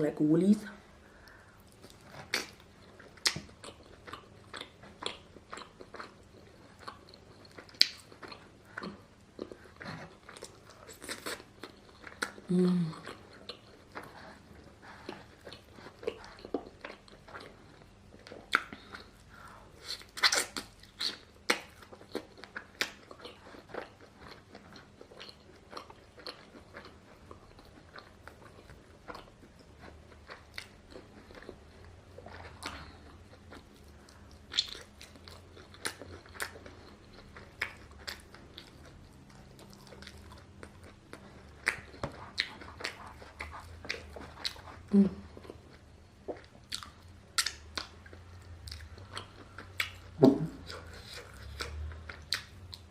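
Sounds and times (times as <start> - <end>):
crunching and chewing food: 0.6 - 52.9.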